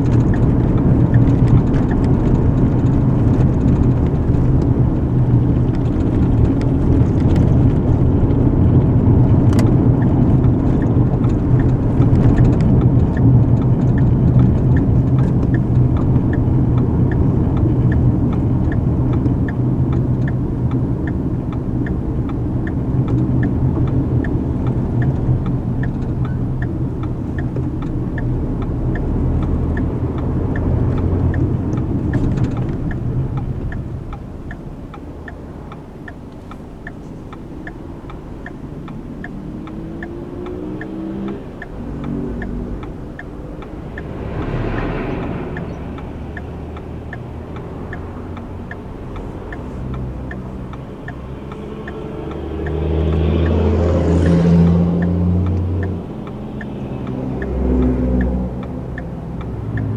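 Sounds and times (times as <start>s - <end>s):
car engine and road rumble: 0.0s - 59.9s
turn signal ticking: 0.0s - 59.9s.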